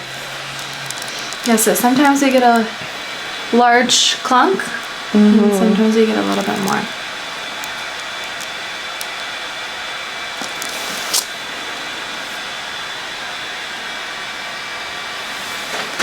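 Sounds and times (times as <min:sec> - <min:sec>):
machine blowing air hiss: 0:00.0 - 0:16.0.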